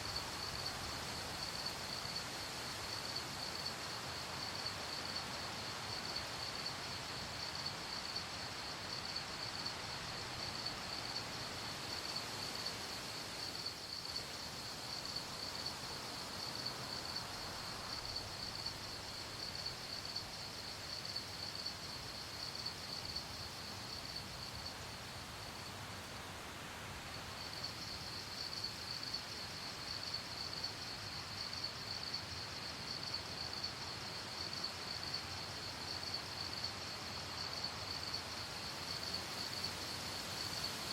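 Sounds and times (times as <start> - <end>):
crickets chirping: 0.0 - 25.8, 26.6 - 40.9
soft background hiss: 0.0 - 40.9.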